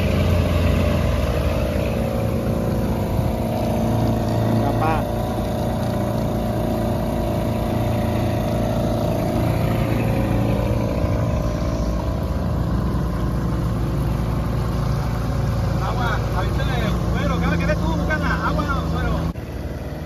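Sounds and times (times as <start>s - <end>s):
outboard motor running: 0.0s - 20.0s
water noise: 0.0s - 20.0s.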